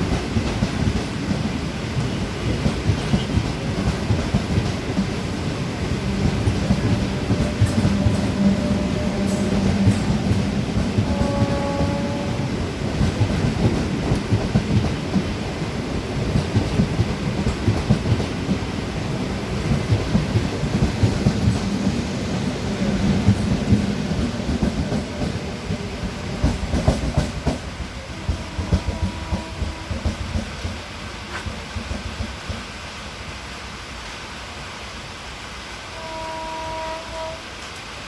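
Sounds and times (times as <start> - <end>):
wheels clacking over rail joints: 0.0 - 32.7
train rumbling past: 0.0 - 38.0.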